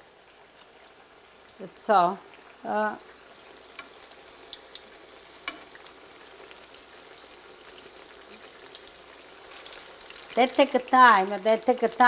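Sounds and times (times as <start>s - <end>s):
eggplant sizzling in oil: 0.0s - 12.0s.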